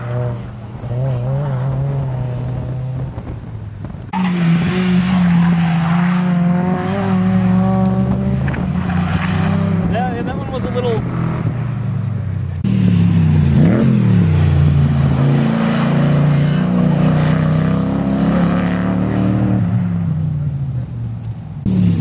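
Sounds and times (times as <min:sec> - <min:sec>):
race car engine revving: 0:00.0 - 0:03.4, 0:04.0 - 0:22.0.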